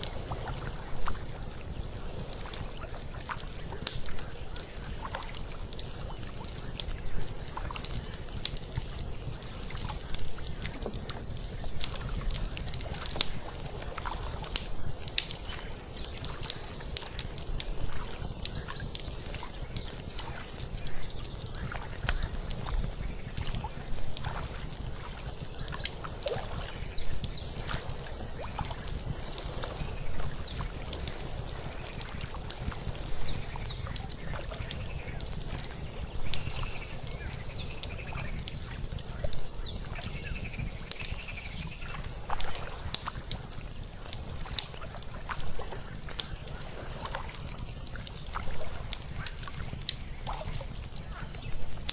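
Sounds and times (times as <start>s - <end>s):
water lapping: 0.0s - 40.1s, 41.6s - 51.8s
wood fire crackling and popping: 0.0s - 51.9s.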